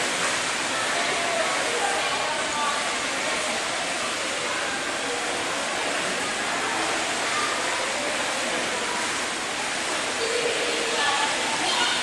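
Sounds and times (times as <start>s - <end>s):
echoing pool hall noise: 0.0s - 12.0s
faint voices: 0.0s - 12.0s
swimmers splashing: 0.0s - 12.0s.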